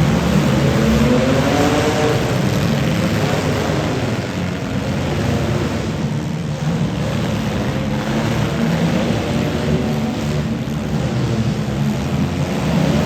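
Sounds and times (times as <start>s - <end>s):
car engines running: 0.0s - 13.0s.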